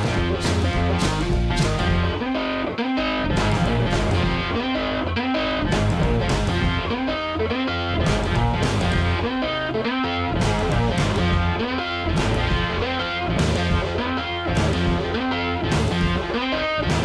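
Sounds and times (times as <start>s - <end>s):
distorted electric guitar music: 0.0s - 17.0s.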